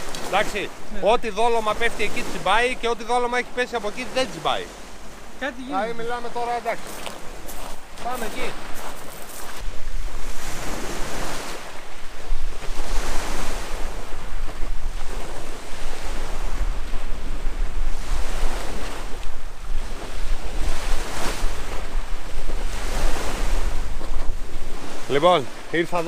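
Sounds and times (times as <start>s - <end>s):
waves washing against rocks: 0.0s - 26.0s
wind rumbling on microphone: 4.5s - 25.8s.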